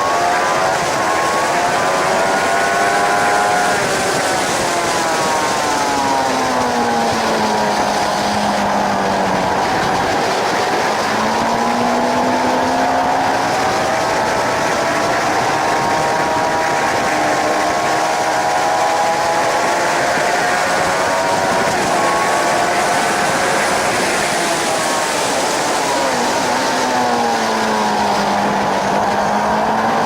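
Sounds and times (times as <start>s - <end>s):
motorcycle engine accelerating: 0.0s - 30.0s
wind noise: 0.0s - 30.0s.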